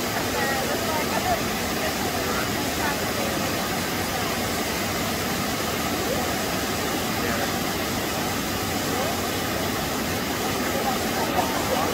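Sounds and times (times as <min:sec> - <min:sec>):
waterfall rushing into pool: 0:00.0 - 0:11.9.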